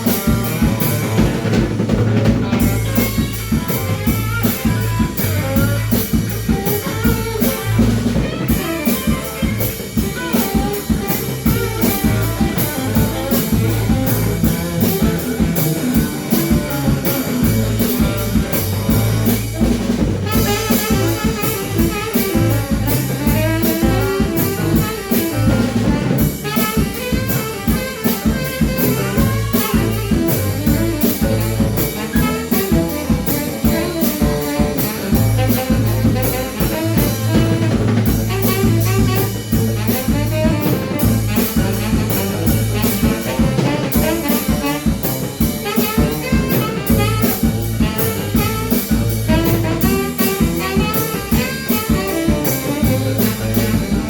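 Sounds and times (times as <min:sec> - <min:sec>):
band playing blues: 0:00.0 - 0:54.0
drum kit: 0:00.0 - 0:54.0
saxophone: 0:00.0 - 0:54.0
trombone: 0:00.0 - 0:54.0
trumpet: 0:00.0 - 0:54.0.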